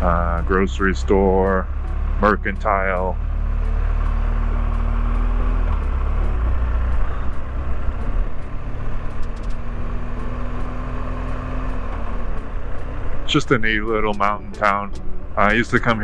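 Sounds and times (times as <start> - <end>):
motorcycle engine drone: 0.0 - 16.0
wind and road noise: 1.1 - 16.0.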